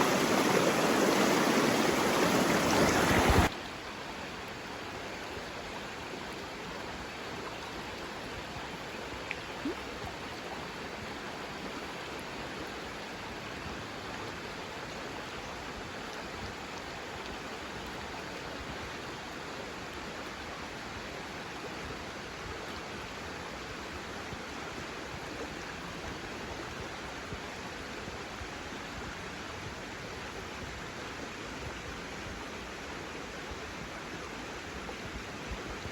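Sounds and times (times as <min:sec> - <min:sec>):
flowing water rushing: 0:00.0 - 0:35.9.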